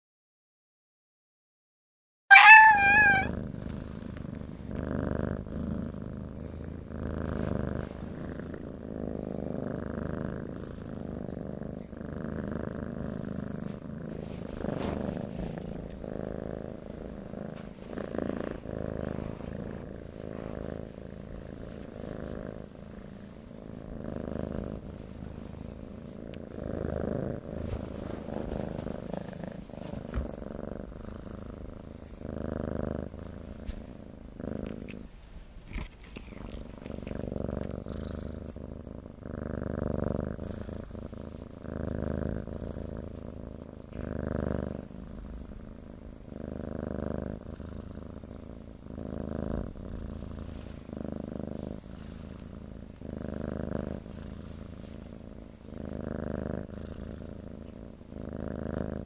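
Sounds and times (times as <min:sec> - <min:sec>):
cat purring: 0:02.3 - 0:59.0.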